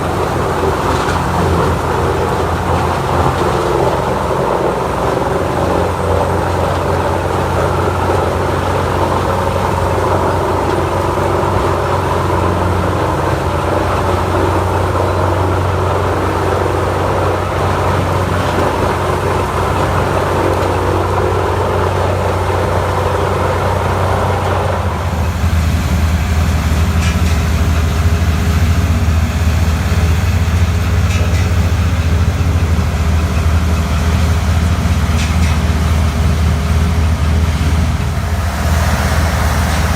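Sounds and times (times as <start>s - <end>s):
heavy engine drone: 0.0s - 39.9s
wood chipper grinding: 0.0s - 39.9s.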